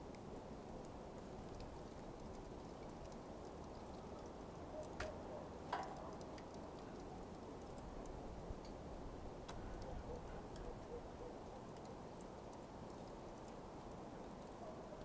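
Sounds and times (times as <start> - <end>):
coals crackling and popping: 0.0 - 10.7, 11.7 - 14.6.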